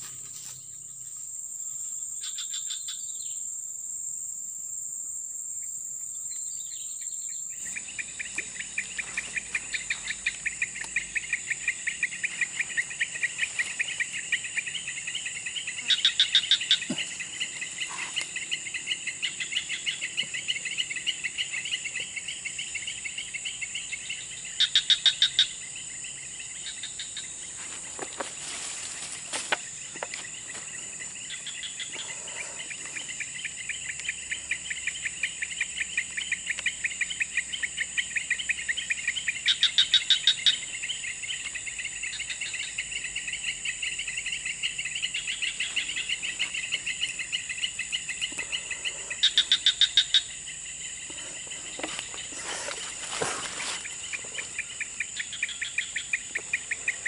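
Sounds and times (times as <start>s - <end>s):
insect buzz: 0.0s - 57.0s
pulsing insect chirp: 0.0s - 57.0s.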